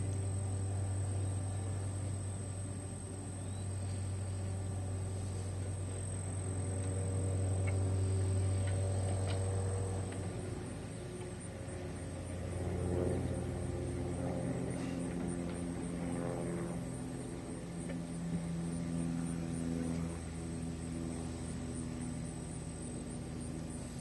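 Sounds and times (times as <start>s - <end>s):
distant engine drone: 0.0s - 24.0s
high insect trill: 0.1s - 24.0s.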